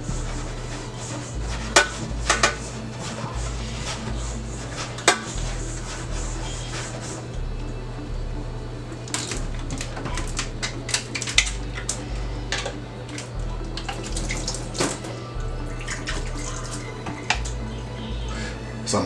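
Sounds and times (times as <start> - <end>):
background music with bass: 0.0 - 19.0.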